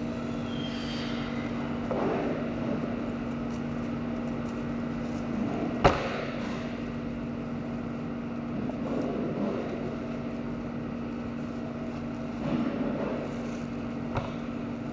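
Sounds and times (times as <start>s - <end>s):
machine hum: 0.0s - 14.9s.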